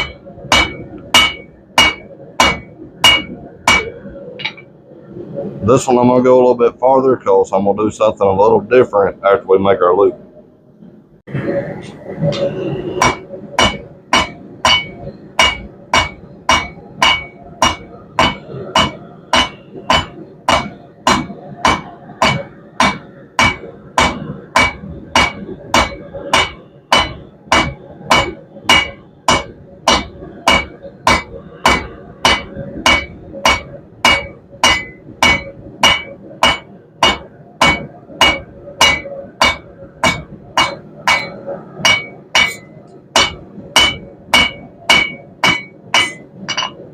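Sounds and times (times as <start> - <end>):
hammer striking steel on anvil: 0.0 - 4.7, 12.3 - 46.8.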